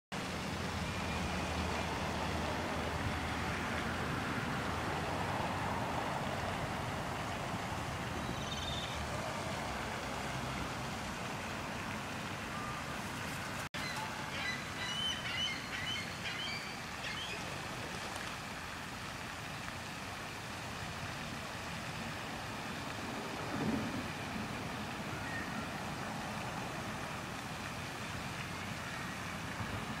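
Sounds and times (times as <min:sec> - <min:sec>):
even outdoor hiss: 0:00.2 - 0:30.0.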